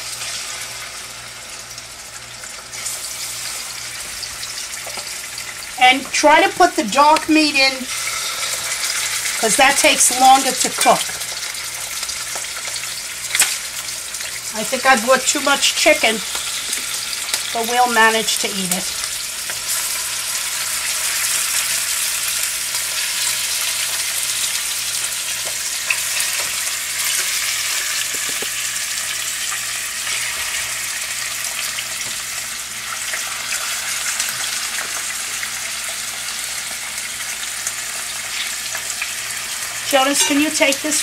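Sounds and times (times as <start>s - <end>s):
chicken sizzling in a skillet: 0.0s - 41.0s.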